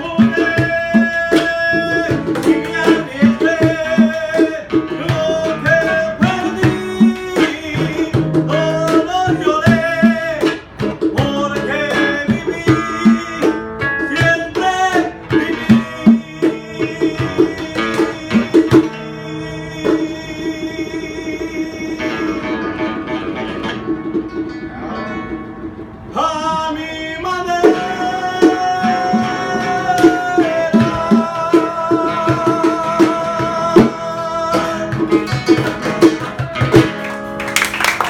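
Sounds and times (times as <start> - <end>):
man singing: 0.0 - 23.0, 26.1 - 36.8
acoustic guitars strumming: 0.0 - 38.0
cajon beat: 0.0 - 38.0.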